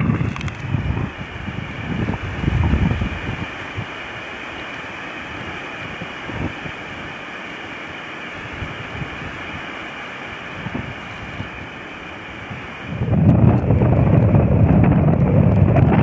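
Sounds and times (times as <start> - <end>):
blizzard wind blowing: 0.0 - 16.0
wind gusts buffeting microphone: 0.0 - 16.0.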